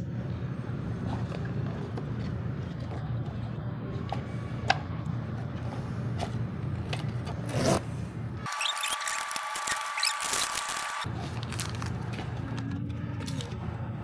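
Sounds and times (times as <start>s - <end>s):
steady low hum: 0.0s - 8.5s, 9.1s - 14.0s.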